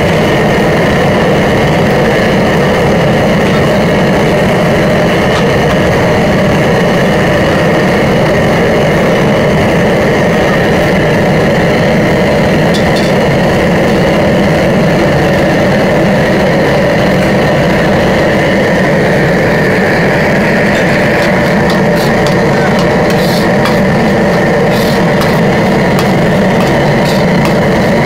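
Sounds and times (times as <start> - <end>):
gas wok burners roaring: 0.0 - 28.0.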